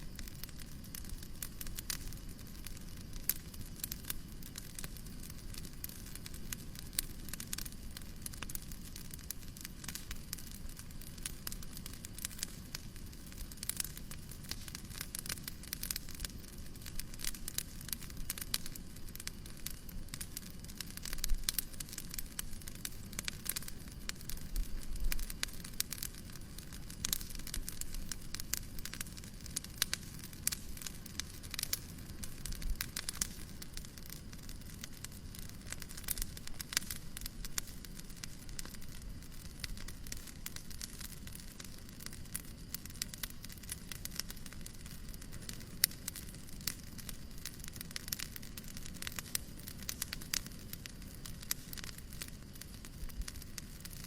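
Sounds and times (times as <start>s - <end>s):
fireplace crackling and popping: 0.0s - 54.0s
low white noise hiss: 0.0s - 54.0s.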